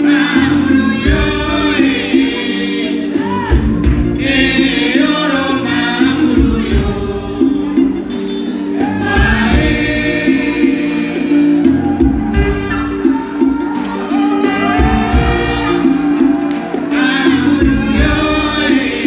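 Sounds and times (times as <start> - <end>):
men singing together: 0.0 - 12.9, 14.3 - 19.0
band playing: 0.0 - 19.0.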